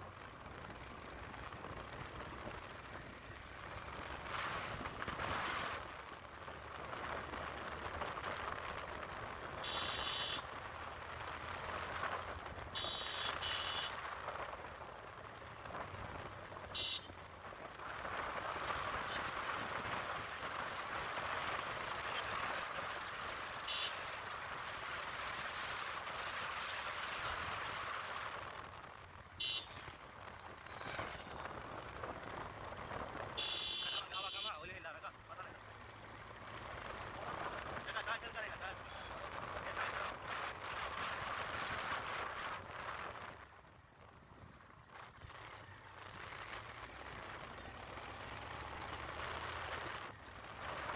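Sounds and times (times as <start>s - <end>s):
motorcycle engine hum: 0.0s - 34.0s, 35.1s - 50.9s.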